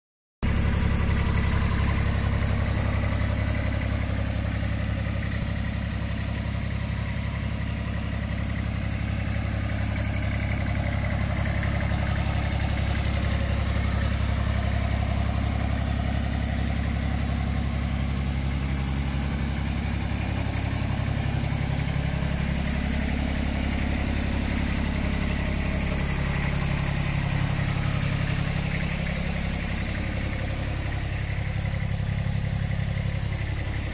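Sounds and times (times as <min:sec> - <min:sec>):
diesel engine idling: 0:00.4 - 0:33.9.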